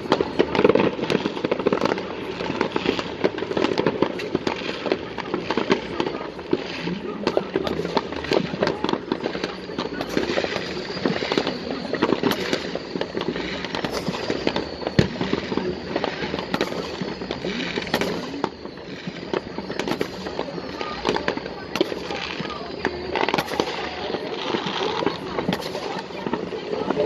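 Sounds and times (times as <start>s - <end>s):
falling firework whistles: 0.0s - 27.0s
fireworks bangs: 0.0s - 27.0s
fireworks crackling: 0.0s - 27.0s.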